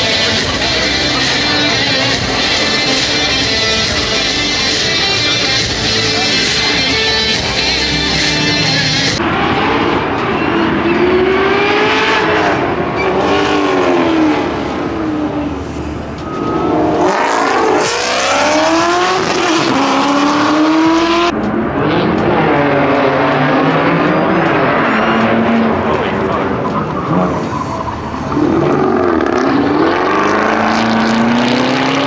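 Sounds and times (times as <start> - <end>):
car engines revving hard: 0.0 - 32.0.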